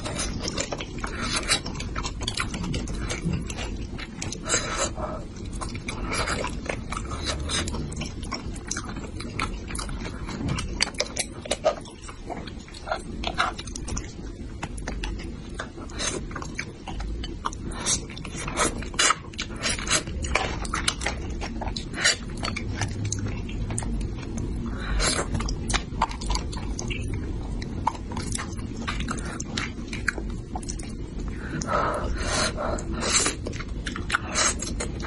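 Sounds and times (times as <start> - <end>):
person chewing and smacking: 0.0 - 35.0.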